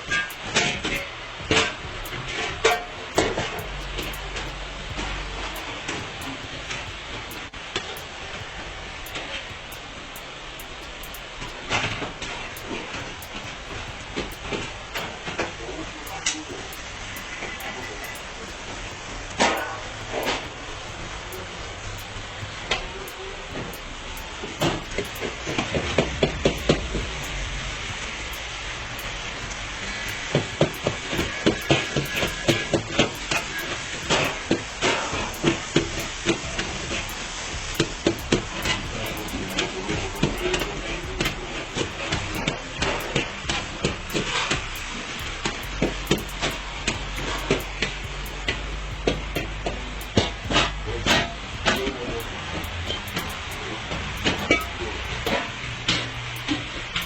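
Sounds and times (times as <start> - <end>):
sharp metal strikes: 0.0 - 57.0.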